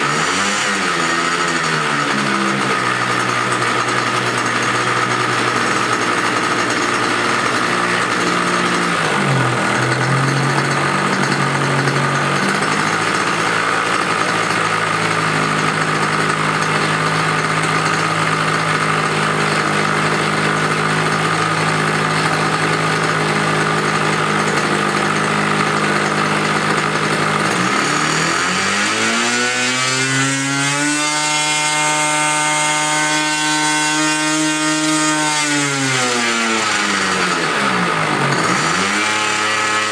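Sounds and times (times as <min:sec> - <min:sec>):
model airplane engine revving: 0:00.0 - 0:39.9.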